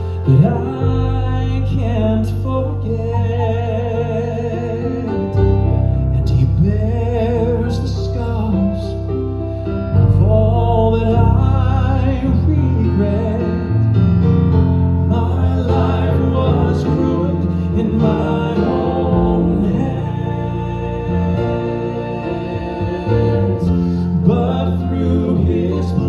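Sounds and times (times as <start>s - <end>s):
vocal quartet singing gospel: 0.0s - 13.9s, 14.7s - 26.0s.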